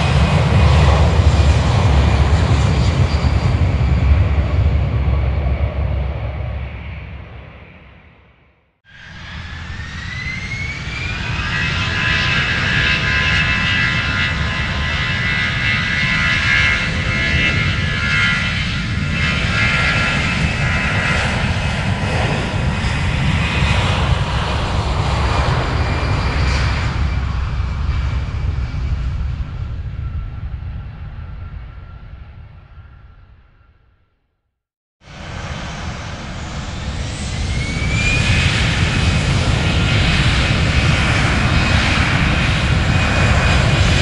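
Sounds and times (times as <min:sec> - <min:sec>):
jet airplane taking off: 0:00.0 - 0:34.2, 0:35.0 - 0:44.0.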